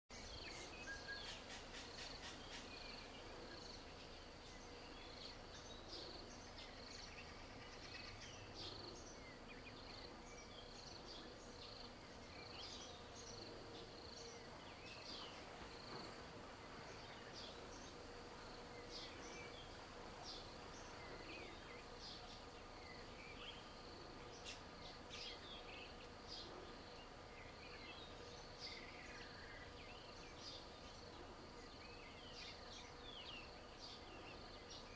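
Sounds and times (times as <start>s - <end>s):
high insect drone: 0.1s - 34.9s.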